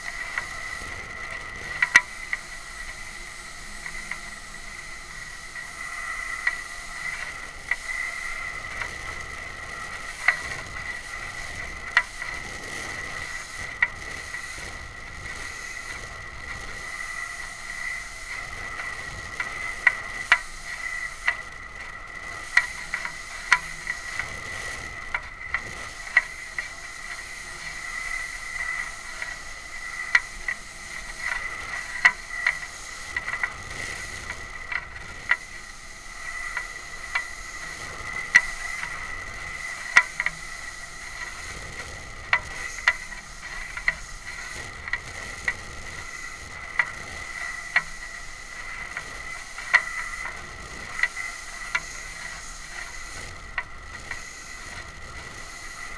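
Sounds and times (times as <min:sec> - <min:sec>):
steady high whine: 0:00.0 - 0:55.9.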